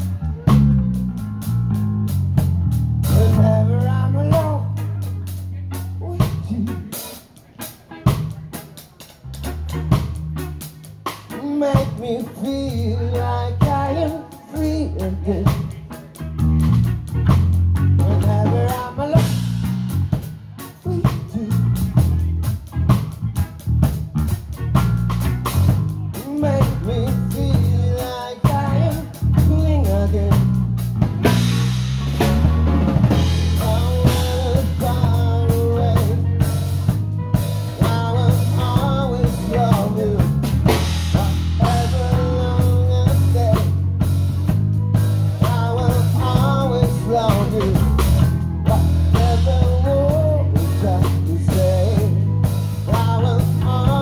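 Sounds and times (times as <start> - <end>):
bass: 0.0 - 54.0
drum kit steady beat: 0.0 - 54.0
lead guitar bending notes: 0.0 - 54.0.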